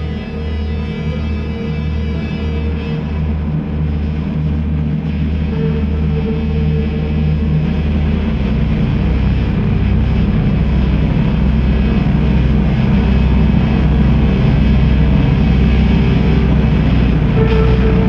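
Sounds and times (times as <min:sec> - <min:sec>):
engine running with low drone: 0:00.0 - 0:18.0.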